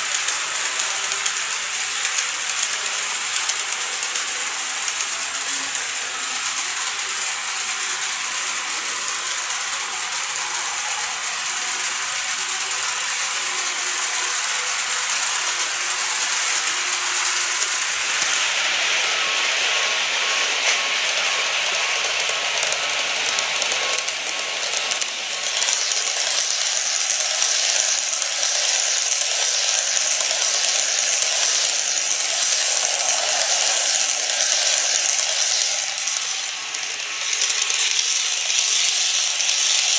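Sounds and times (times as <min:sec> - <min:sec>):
model train rattling on track: 0:00.0 - 0:39.9
motor whirr: 0:00.0 - 0:39.9.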